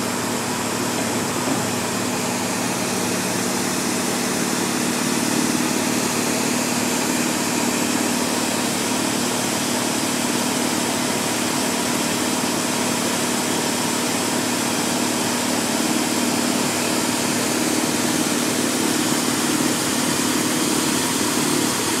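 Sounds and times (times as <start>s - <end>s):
street sweeper engine running: 0.0s - 22.0s.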